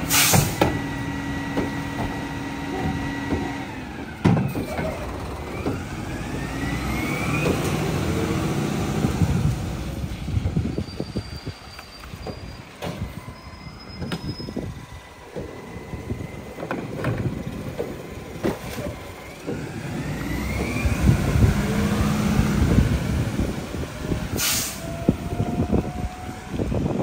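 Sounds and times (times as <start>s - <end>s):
garbage truck engine running: 0.0s - 10.7s, 12.4s - 27.0s.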